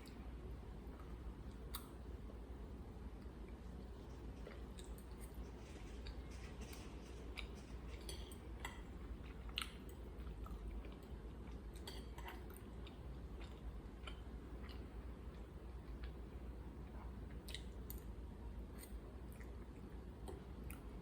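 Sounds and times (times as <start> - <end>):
chewing food: 3.2 - 21.0.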